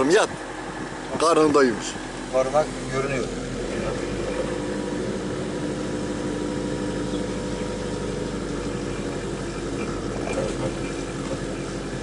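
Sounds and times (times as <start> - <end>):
car engine running inside car: 0.0 - 12.0.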